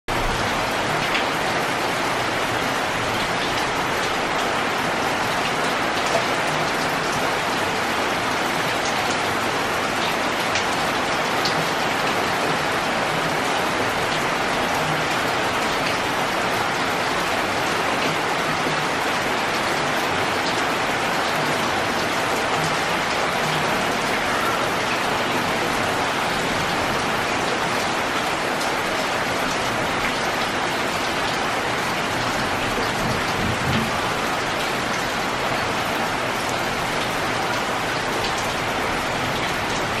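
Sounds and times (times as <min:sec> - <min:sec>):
rain falling on leaves: 0:00.1 - 0:40.0.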